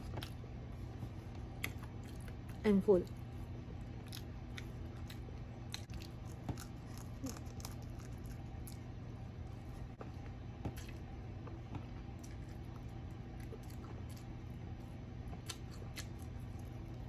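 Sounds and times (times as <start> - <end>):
chewing fried food: 0.0 - 9.7, 12.0 - 17.0
steady low hum: 0.0 - 17.0.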